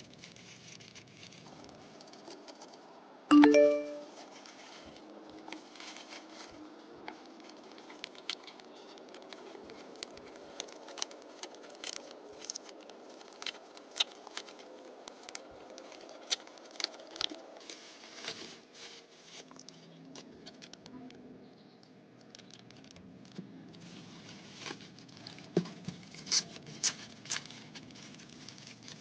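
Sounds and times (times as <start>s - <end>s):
plastic and cardboard rustling: 0.0s - 2.8s, 3.6s - 20.7s, 22.4s - 29.0s.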